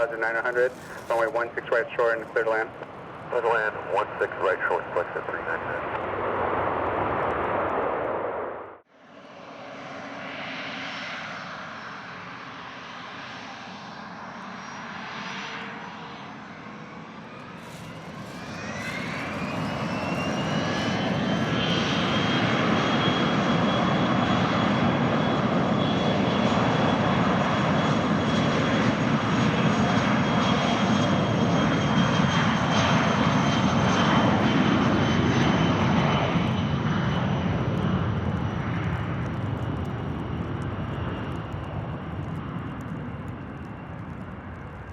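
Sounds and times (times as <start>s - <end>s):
jet engine turbine whine: 0.0s - 44.9s.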